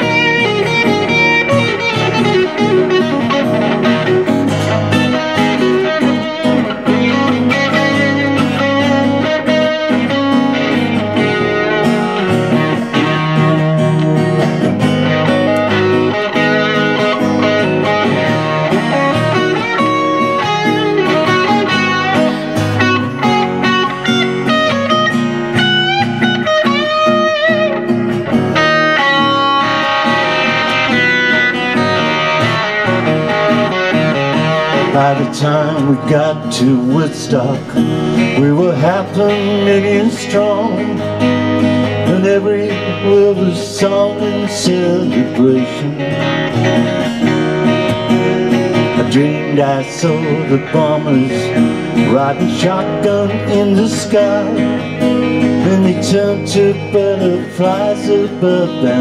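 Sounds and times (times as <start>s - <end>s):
acoustic guitar strummed: 0.0s - 59.0s
electric guitar lead lines: 0.0s - 59.0s.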